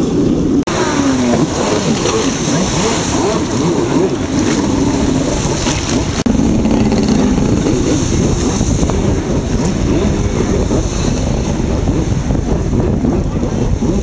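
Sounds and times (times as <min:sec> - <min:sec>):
jet ski engine running hard: 0:00.0 - 0:14.0
water splashing: 0:00.0 - 0:14.0
wind buffeting microphone: 0:00.0 - 0:14.0.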